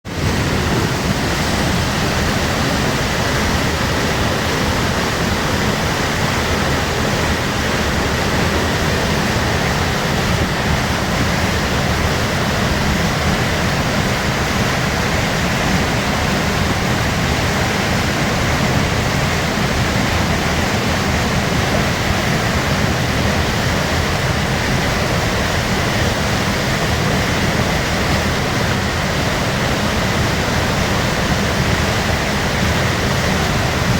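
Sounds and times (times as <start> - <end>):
loud steady rushing noise: 0.0 - 33.9.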